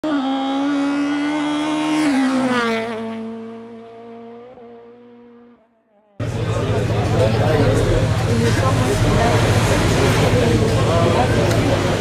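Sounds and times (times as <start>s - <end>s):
racing car engine passing: 0.0s - 12.0s.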